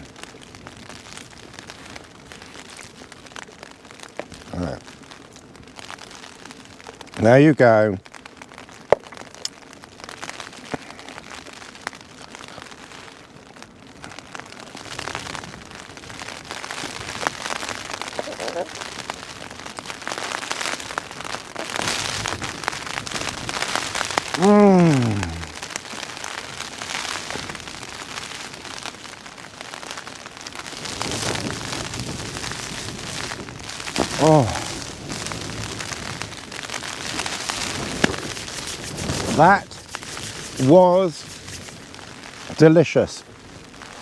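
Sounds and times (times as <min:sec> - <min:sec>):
rain on a tarp: 0:00.0 - 0:44.0.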